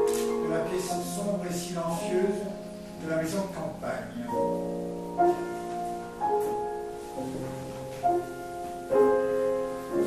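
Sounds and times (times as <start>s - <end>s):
slow classical piano: 0.0s - 10.0s.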